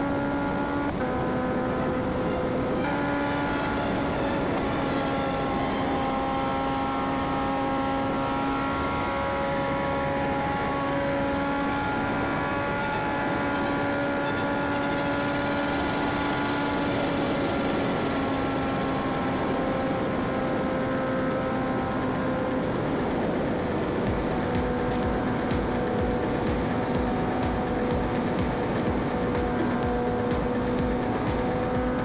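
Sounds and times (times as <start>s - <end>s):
loud wind rush: 0.0s - 32.0s
motorcycle engine at high speed: 0.0s - 32.0s.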